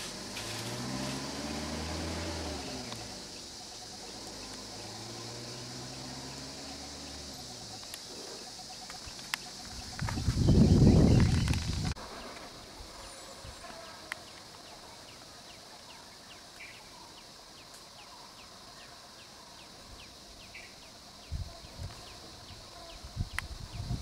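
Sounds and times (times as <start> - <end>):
high insect drone: 0.0 - 24.0.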